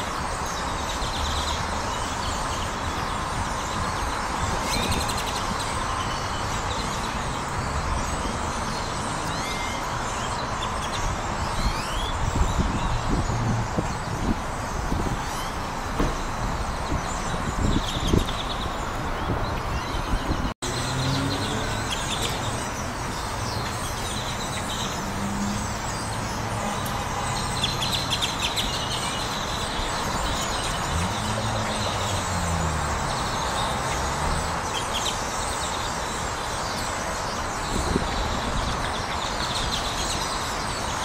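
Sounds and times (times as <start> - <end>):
flock of birds chattering: 0.0 - 41.0
vehicle engines: 0.0 - 41.0.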